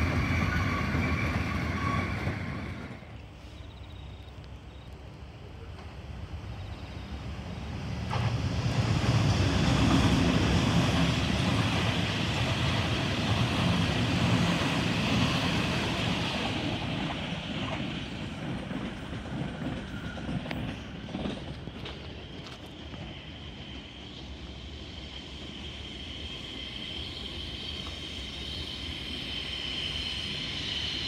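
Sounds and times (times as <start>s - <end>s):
train hiss: 0.0s - 31.0s
train wheels rumbling on rail: 0.0s - 31.0s.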